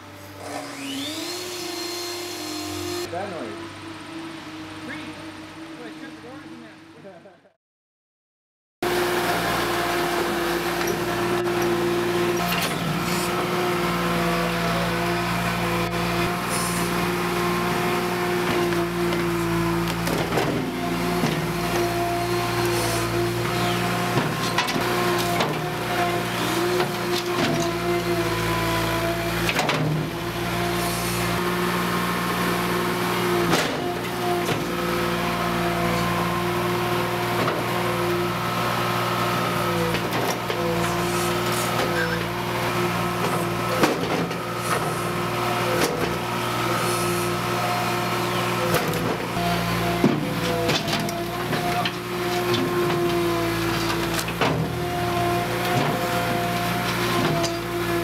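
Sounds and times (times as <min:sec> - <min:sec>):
stump grinder engine running: 0:00.0 - 0:07.1, 0:08.8 - 0:58.0.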